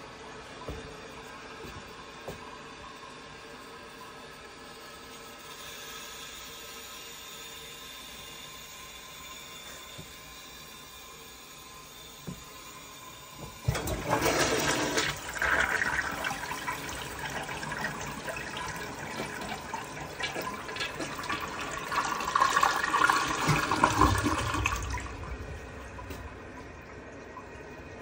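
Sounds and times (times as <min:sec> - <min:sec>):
toilet flushing: 0:00.1 - 0:28.0.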